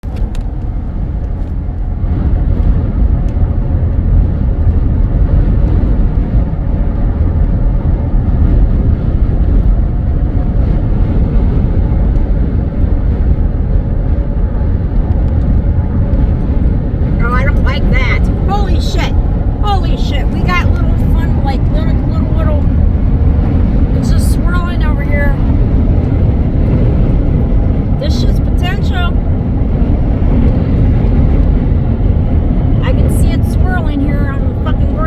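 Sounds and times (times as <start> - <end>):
vehicle rumble and road noise: 0.0 - 35.0
wind buffeting: 0.0 - 35.0.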